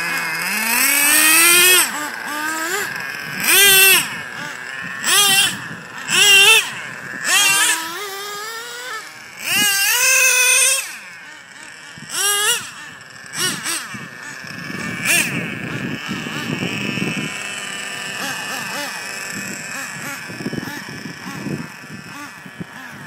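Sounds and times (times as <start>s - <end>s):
small nitro engines revving: 0.0s - 23.0s.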